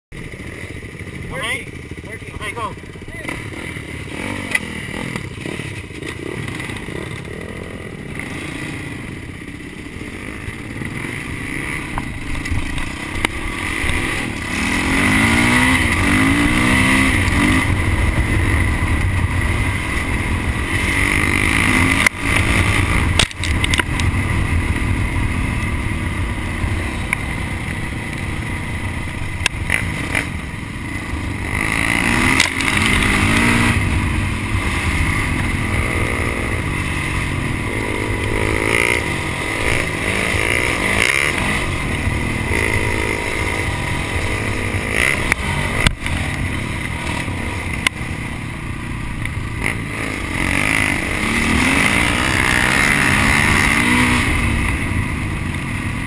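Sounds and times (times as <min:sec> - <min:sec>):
dirt bike engine revving: 0:00.2 - 0:56.0.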